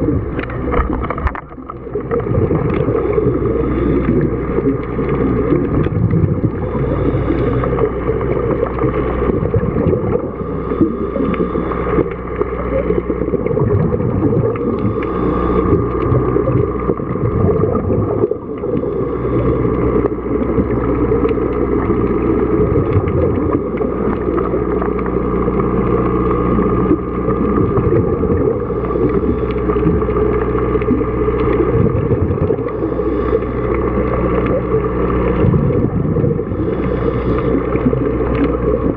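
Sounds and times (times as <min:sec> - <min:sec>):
boat engine drone underwater: 0:00.0 - 0:38.9.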